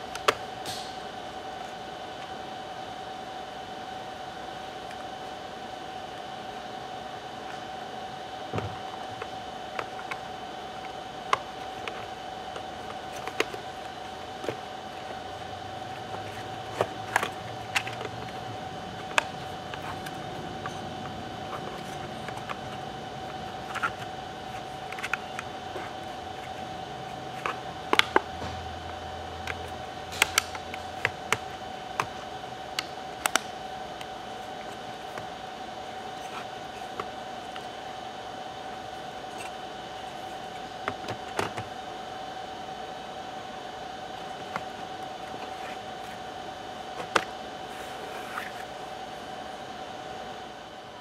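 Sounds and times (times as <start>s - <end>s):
steady hum: 0.0s - 51.0s.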